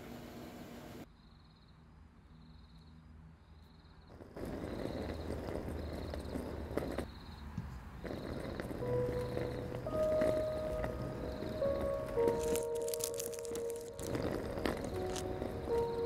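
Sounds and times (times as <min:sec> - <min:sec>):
crickets chirping: 0:01.1 - 0:16.0.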